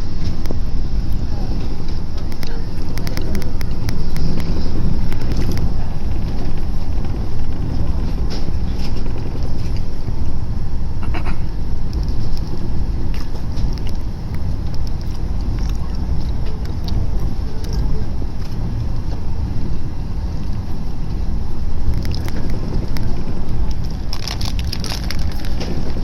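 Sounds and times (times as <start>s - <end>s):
train wheels rumbling on track: 0.0s - 26.0s
sharp clicks and rattles: 1.6s - 10.0s, 11.0s - 19.2s, 20.3s - 26.0s.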